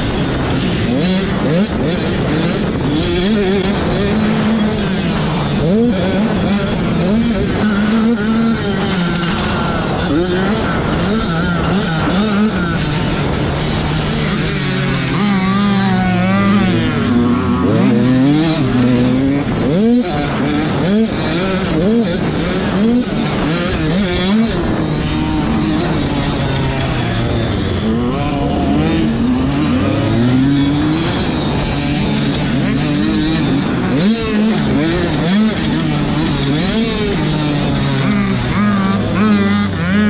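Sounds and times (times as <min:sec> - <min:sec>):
motocross bike engines revving: 0:00.0 - 0:40.0.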